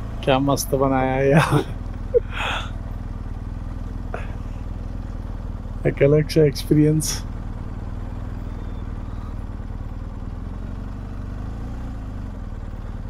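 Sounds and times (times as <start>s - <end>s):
motorcycle engine running slowly: 0.0s - 13.0s.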